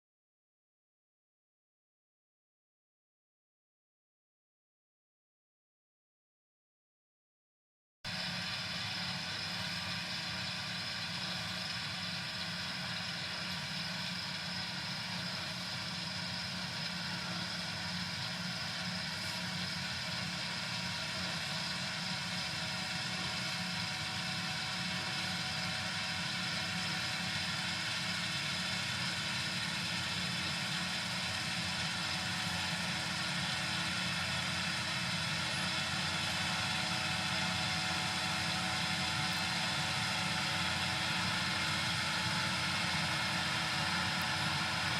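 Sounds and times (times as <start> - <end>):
combine harvester drone: 8.1 - 44.9.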